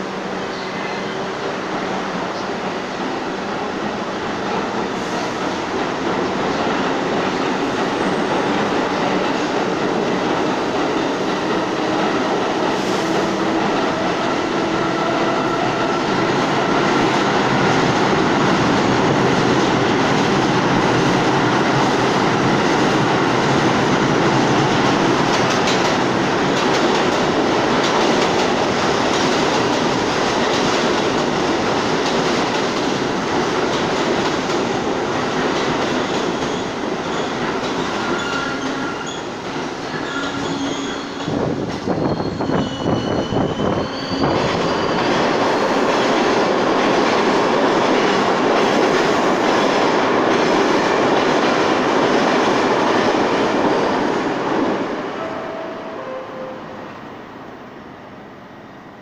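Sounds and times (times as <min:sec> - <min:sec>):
subway train rumble and clatter: 0:00.0 - 0:59.0.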